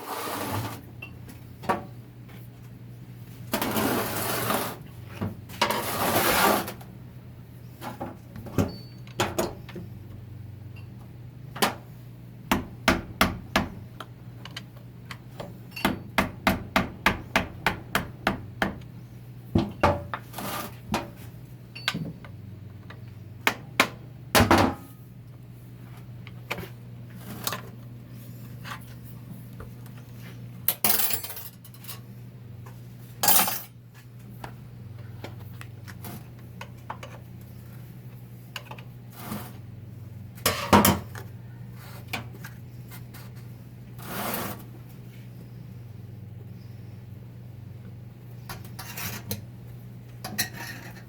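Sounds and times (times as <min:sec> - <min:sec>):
steady low hum: 0:00.2 - 0:51.0.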